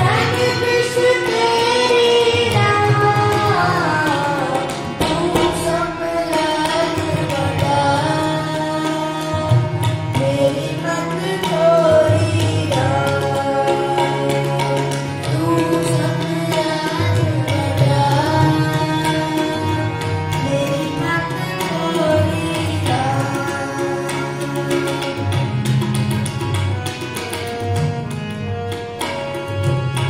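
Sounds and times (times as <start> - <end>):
harmonium: 0.0 - 30.0
tabla rhythm: 0.0 - 30.0.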